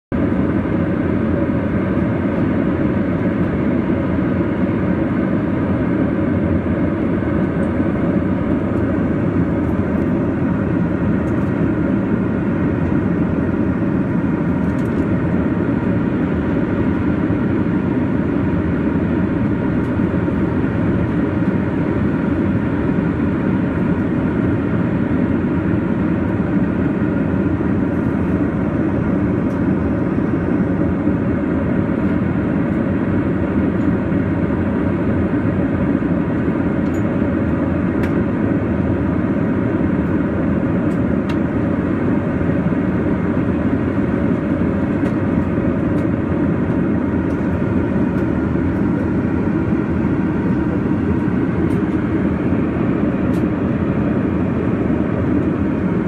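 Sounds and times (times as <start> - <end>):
jet airliner cabin drone: 0.1 - 56.0.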